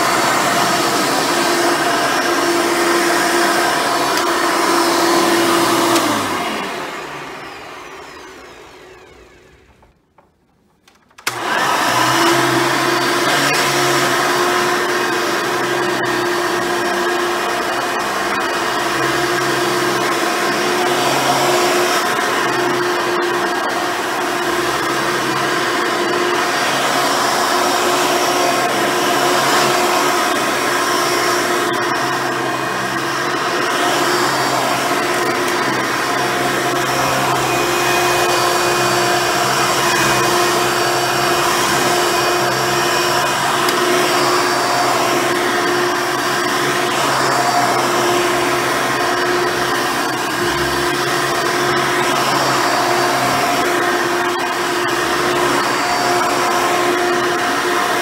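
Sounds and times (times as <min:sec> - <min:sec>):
vacuum cleaner running on rug: 0:00.0 - 0:10.0, 0:11.2 - 0:58.0.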